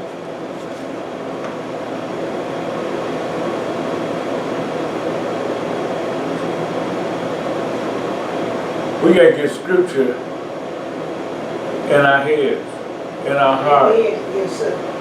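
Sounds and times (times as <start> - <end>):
faint hum: 0.0 - 15.0
steady droning noise: 0.0 - 15.0.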